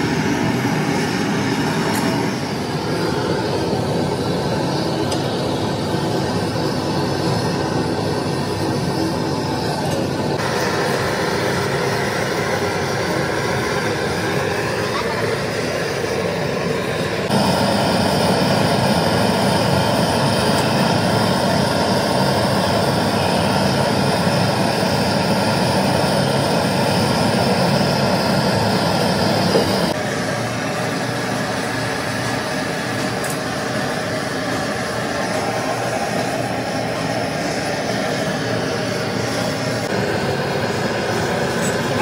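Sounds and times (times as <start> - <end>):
loud mechanical droning: 0.0 - 42.0.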